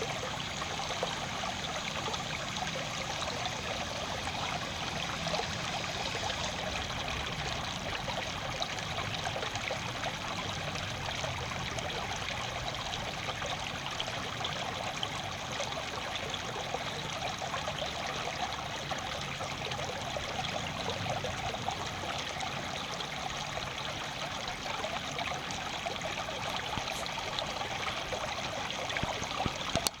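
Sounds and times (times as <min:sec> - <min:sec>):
water running: 0:00.0 - 0:30.0.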